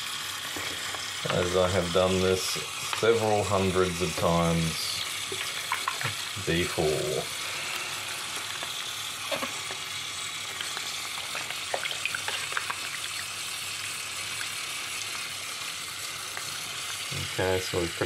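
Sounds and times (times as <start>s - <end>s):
tap water running into sink: 0.0s - 18.0s.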